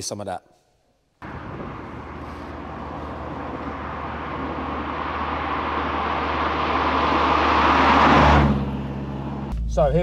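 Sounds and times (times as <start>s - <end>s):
car engine and tyres approaching: 1.2s - 10.0s.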